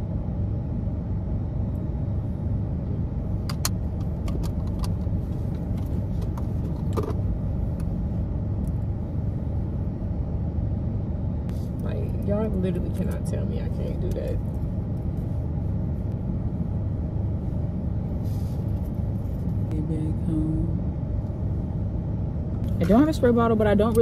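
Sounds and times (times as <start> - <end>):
car rumble from inside cabin: 0.0 - 24.0.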